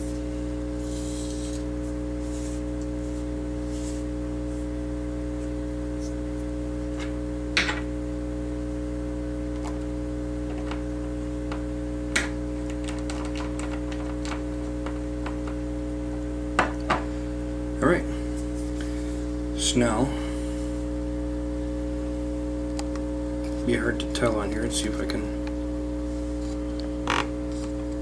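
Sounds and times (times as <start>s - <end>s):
hot air station humming: 0.0s - 28.0s.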